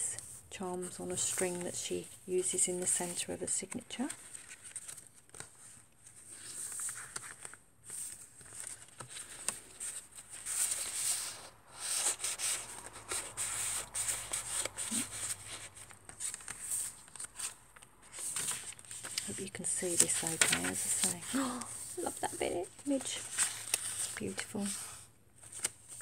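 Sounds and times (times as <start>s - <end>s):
paper rustling and sliding: 1.1s - 26.0s.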